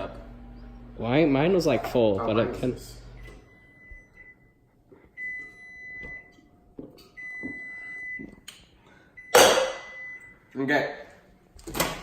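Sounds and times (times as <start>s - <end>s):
appliance beeper tone: 0.0s - 11.0s.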